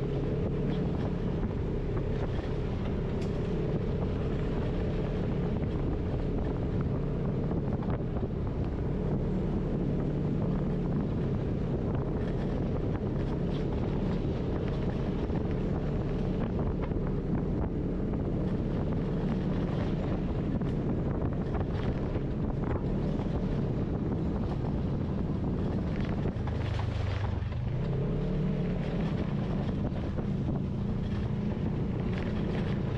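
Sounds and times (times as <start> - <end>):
vehicle engine running: 0.0 - 32.9
wind buffeting microphone: 0.0 - 32.9.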